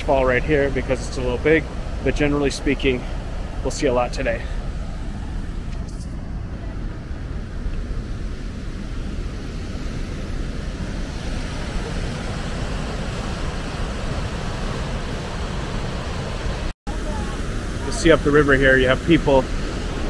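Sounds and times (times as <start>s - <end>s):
rushing whitewater and waterfall: 0.0s - 5.2s, 8.4s - 20.0s.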